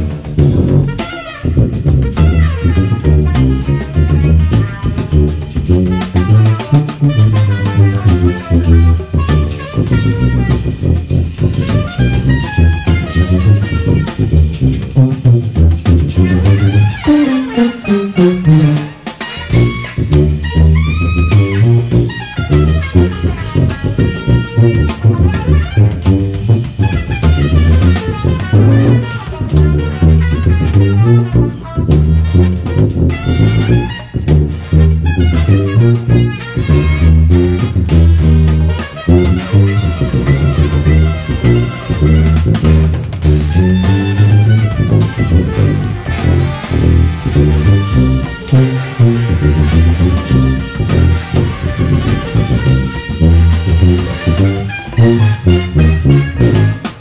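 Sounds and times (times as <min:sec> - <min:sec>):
backing track with drum kit: 0:00.0 - 0:57.0
sousaphone bass line: 0:00.0 - 0:57.0.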